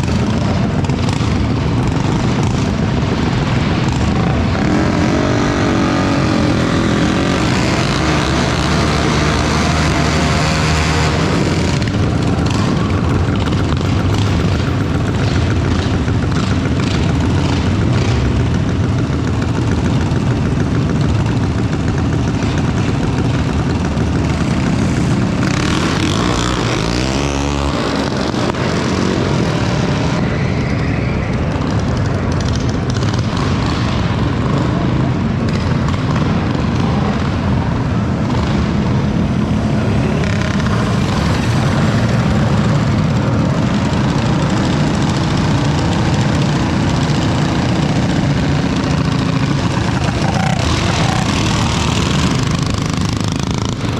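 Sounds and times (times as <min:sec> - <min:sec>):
minibike engines revving: 0:00.0 - 0:53.9.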